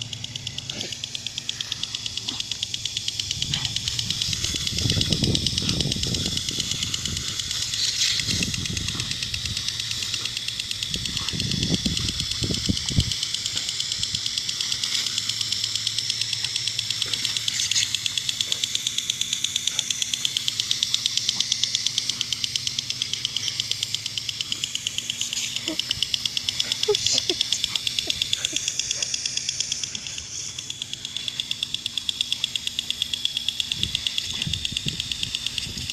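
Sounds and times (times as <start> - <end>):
sprinkler spraying water: 0.0 - 35.9.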